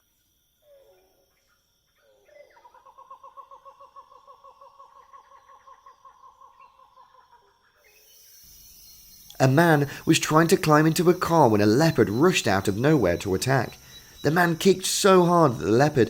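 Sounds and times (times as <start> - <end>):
bird call with pulsing trill: 0.7 - 3.4, 4.5 - 16.0.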